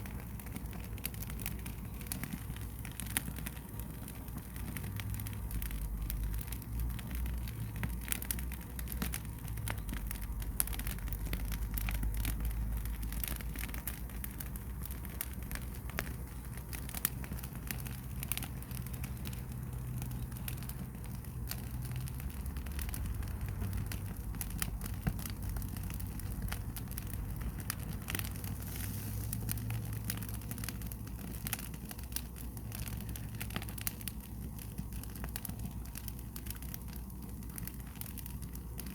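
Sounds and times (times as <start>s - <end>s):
fire crackling: 0.0s - 38.9s
sharp pops of fire: 0.0s - 38.9s.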